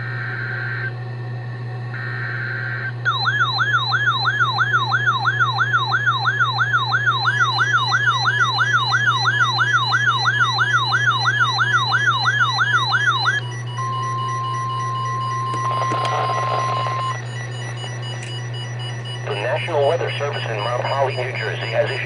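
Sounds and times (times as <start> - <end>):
electronic alert tone yelping: 2.8 - 22.0.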